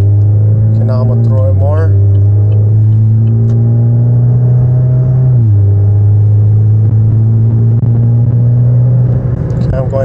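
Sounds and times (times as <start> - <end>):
car engine droning under acceleration: 0.0 - 10.0.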